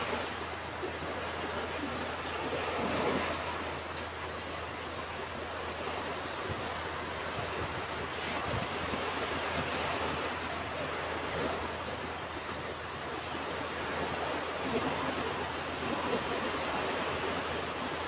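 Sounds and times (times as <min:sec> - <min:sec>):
ocean waves on beach: 0:00.0 - 0:18.0.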